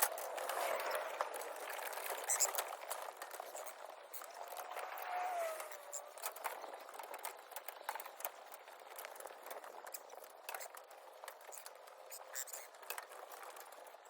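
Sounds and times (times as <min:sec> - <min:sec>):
light clicks and rustles: 0:00.0 - 0:14.0.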